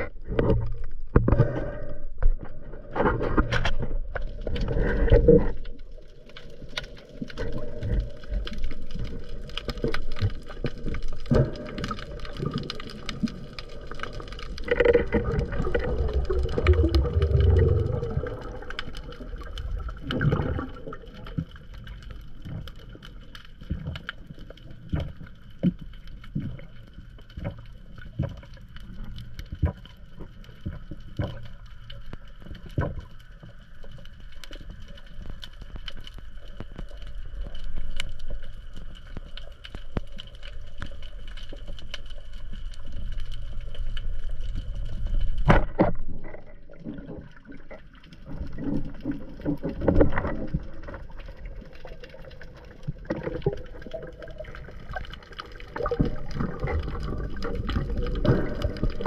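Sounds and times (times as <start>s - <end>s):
small underwater clicks and crackles: 0.0s - 59.0s
underwater water wash: 0.0s - 59.0s
water bubbling and gurgling: 0.0s - 59.0s.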